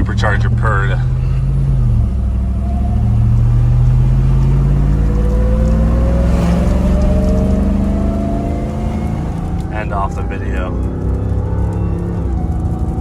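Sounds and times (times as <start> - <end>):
engine drone: 0.0 - 13.0
supercharger whining: 0.0 - 13.0.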